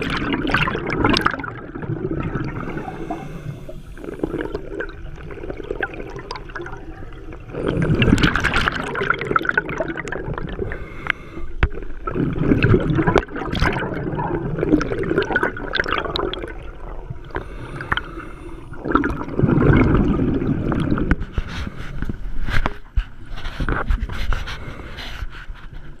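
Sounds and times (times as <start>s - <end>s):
exhaled air bubbling underwater: 0.0s - 23.0s.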